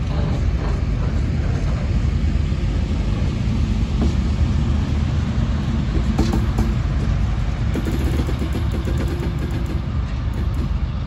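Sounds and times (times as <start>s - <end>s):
diesel locomotive: 0.0s - 11.0s
freight train wagons rumbling: 0.0s - 11.0s.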